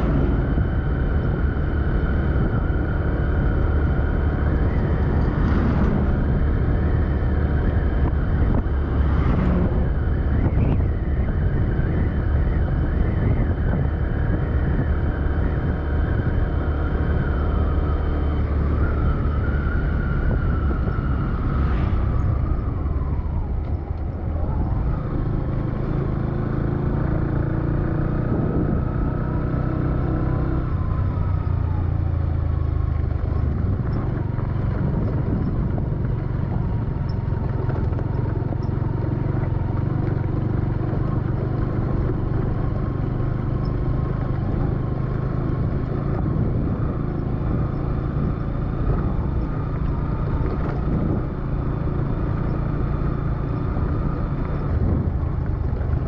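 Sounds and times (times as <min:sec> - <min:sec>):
tyre and road noise: 0:00.0 - 0:56.0
vehicle engine running: 0:00.0 - 0:56.0.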